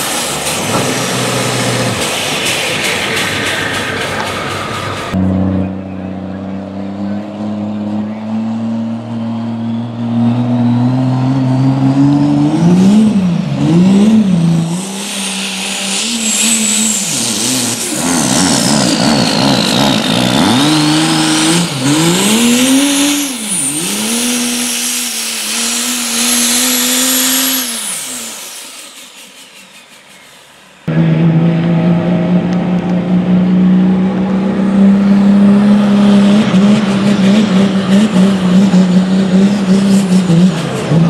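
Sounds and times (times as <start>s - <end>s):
diesel truck engine revving: 0.0s - 41.0s
high turbo whine: 0.0s - 41.0s.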